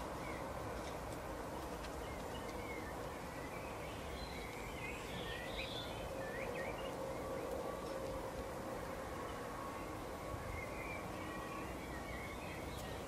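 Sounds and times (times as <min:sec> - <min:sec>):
background hiss with low hum: 0:00.0 - 0:13.0.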